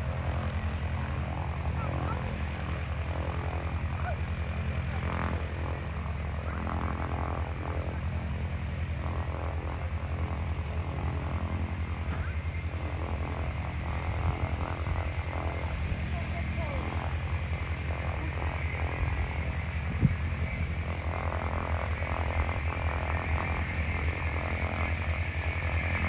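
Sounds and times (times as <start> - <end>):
propeller plane engine droning: 0.0 - 26.0.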